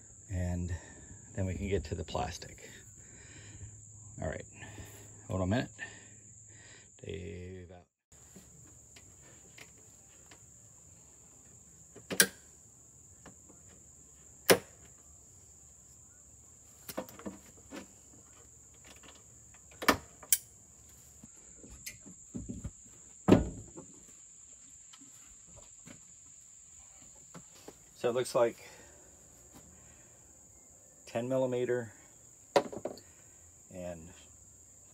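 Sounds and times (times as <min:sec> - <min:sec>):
high insect drone: 0:00.0 - 0:34.9.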